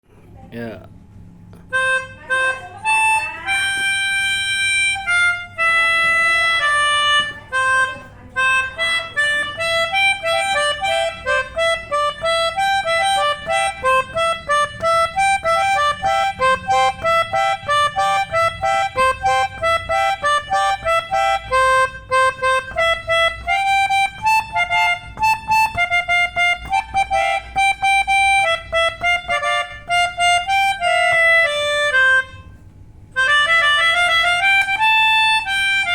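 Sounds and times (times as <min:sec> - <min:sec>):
melodica playing a horn melody: 0:01.7 - 0:32.6, 0:33.2 - 0:35.9.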